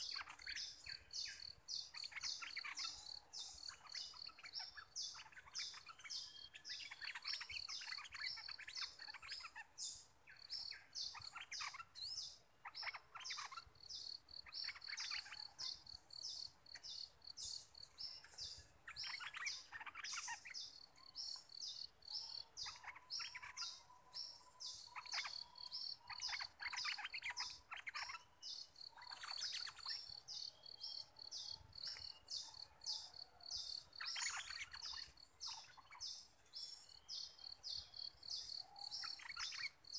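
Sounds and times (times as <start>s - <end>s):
bulbuls warbling song: 0.0s - 39.9s.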